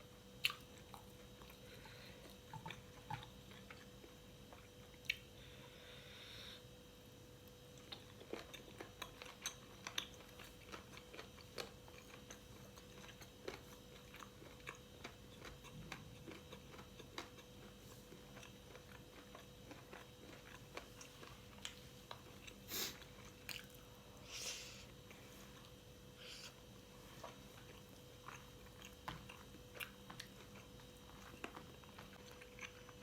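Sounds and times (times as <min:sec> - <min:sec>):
faint steady hum: 0:00.0 - 0:33.0
person chewing and crunching food: 0:00.1 - 0:05.8, 0:07.4 - 0:33.0.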